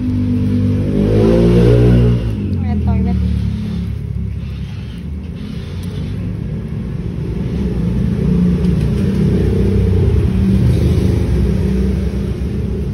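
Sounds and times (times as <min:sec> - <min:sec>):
road rumble inside car: 0:01.6 - 0:12.9.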